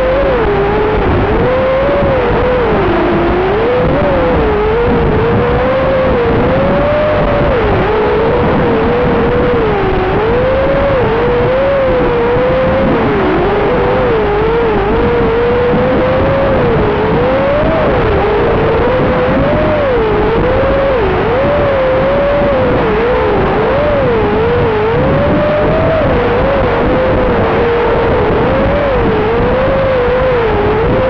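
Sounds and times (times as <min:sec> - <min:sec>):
drone motors whining: 0:00.0 - 0:31.0.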